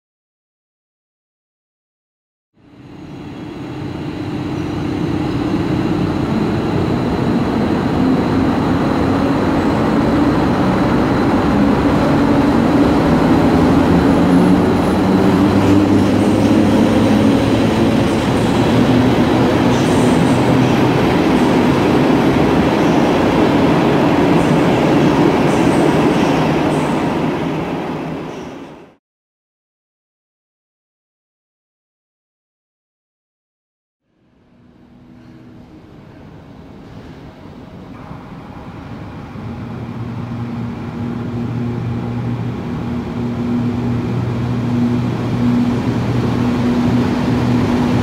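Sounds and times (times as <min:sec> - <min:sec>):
train wheels running on rails: 0:02.8 - 0:29.0, 0:34.8 - 0:48.0.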